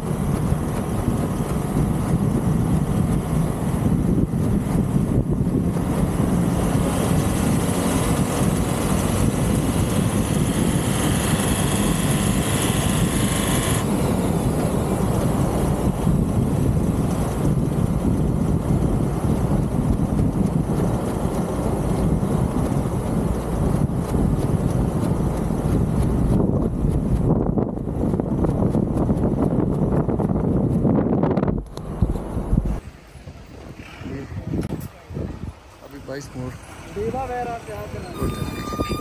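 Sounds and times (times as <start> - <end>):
motorcycle engine running: 0.0 - 32.7
wind rush on microphone: 0.0 - 39.0.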